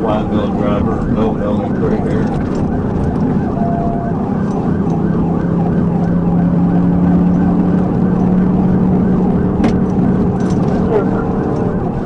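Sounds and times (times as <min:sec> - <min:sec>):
car engine running hard: 0:00.0 - 0:12.0
police siren yelping: 0:00.0 - 0:12.0.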